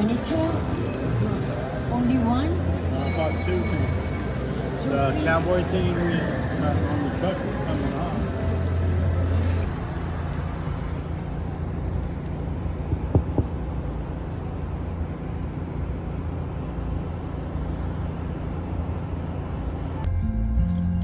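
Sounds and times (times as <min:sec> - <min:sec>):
truck engine hum: 0:00.0 - 0:21.0.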